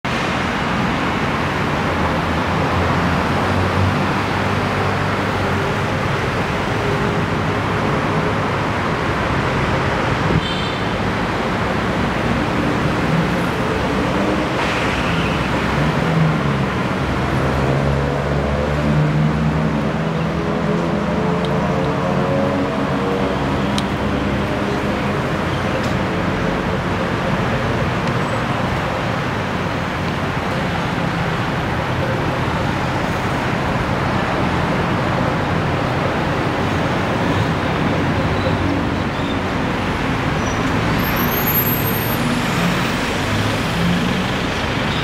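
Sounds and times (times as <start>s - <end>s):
road traffic: 0.0s - 45.0s.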